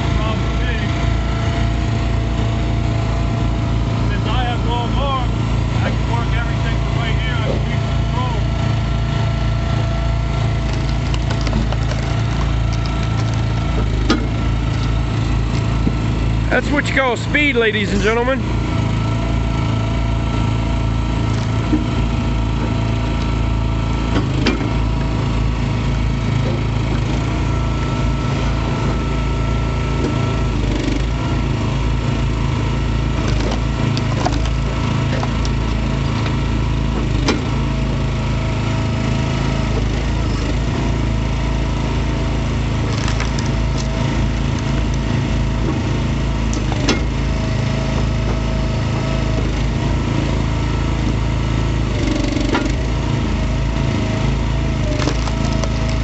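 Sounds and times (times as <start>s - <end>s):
small gas engine running: 0.0s - 56.0s
wood cracking and splitting: 9.4s - 17.1s, 18.8s - 56.0s.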